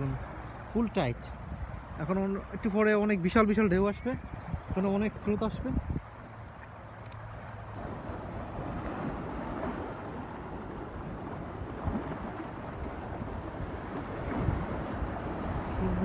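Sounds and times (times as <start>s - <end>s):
ocean waves breaking: 0.0s - 16.0s
wind rumbling on microphone: 0.0s - 16.0s.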